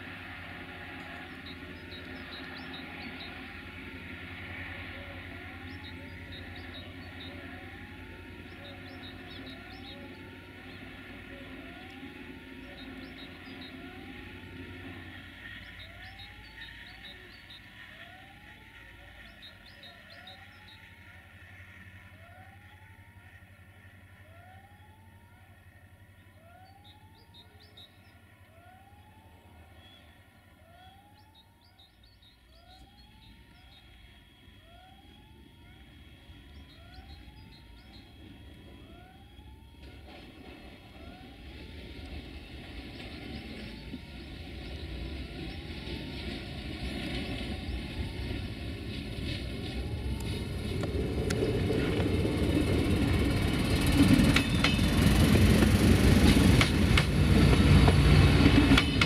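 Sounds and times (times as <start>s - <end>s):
electronic warning tone sweeping upward: 0.0s - 23.4s, 24.2s - 25.6s, 26.3s - 59.0s
railcar diesel rumble: 0.0s - 59.0s.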